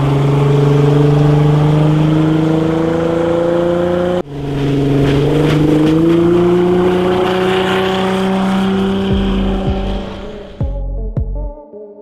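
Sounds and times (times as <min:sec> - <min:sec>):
rushing water and wind: 0:00.0 - 0:10.6
boat engine running: 0:00.0 - 0:10.8.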